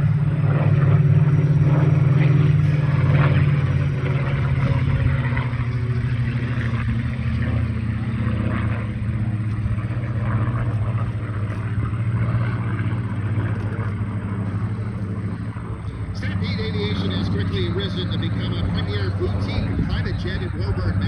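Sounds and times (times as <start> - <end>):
aircraft piston engines droning: 0.0 - 21.0.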